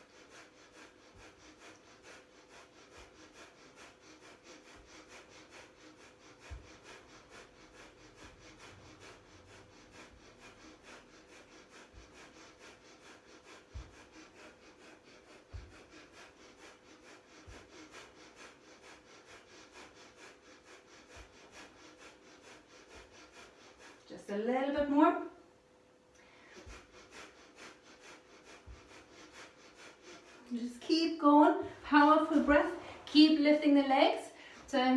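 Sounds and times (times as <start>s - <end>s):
rapid forceful nose breathing: 0.0s - 25.5s, 26.1s - 34.9s.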